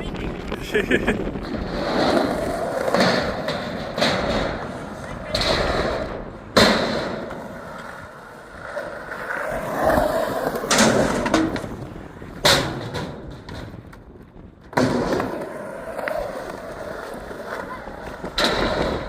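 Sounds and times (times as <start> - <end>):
skateboard wheels rolling on pavement: 0.0 - 19.0
skateboard hitting ground: 0.1 - 19.0.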